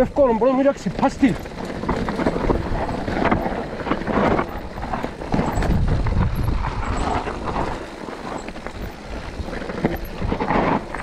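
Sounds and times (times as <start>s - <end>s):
bike knocks and rattles: 0.0s - 11.0s
bike tyres on rocks and dirt: 0.0s - 11.0s
low wind rumble on microphone: 0.0s - 11.0s.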